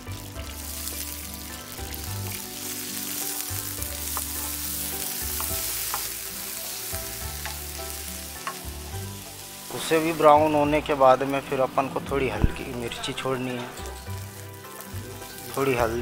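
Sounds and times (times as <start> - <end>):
garlic sizzling in a pan: 0.0 - 16.0.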